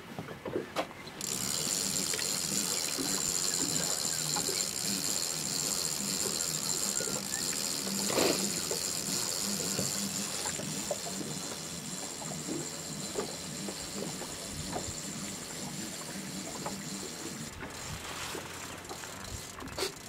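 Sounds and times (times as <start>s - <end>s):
boat motor humming: 0.6s - 20.0s
water splashing: 1.2s - 20.0s.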